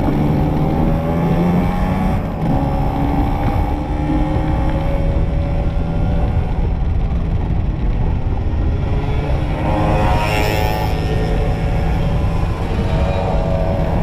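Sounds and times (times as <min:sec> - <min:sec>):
motorcycle engines running: 0:00.0 - 0:14.0
wind rumble on microphone: 0:00.0 - 0:14.0.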